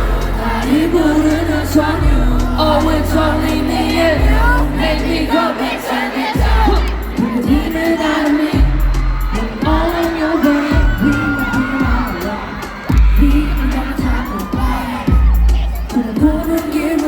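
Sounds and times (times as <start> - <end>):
crowd cheering and singing along: 0.0 - 17.0
live pop music over loudspeakers: 0.0 - 17.0.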